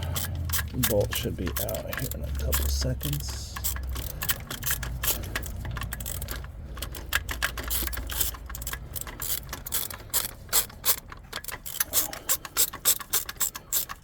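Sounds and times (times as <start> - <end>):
hand ratchet clicking: 0.0 - 14.0.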